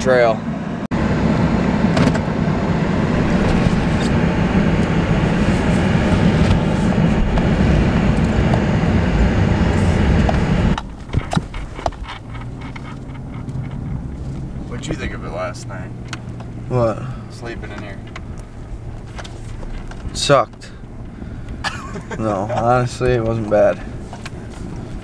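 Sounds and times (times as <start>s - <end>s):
pickup truck engine rumbling: 0.0s - 25.0s.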